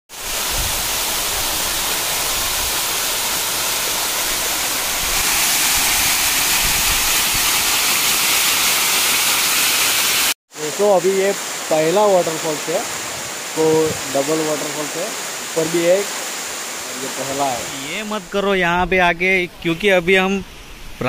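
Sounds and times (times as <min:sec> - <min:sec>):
waterfall rushing: 0:00.1 - 0:21.0.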